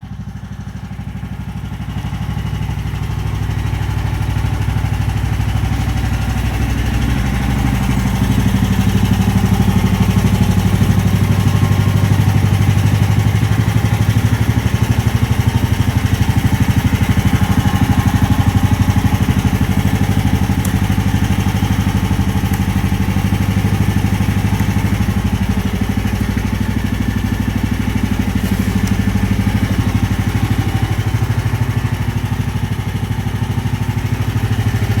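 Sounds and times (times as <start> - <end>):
petrol engine running: 0.1 - 35.0.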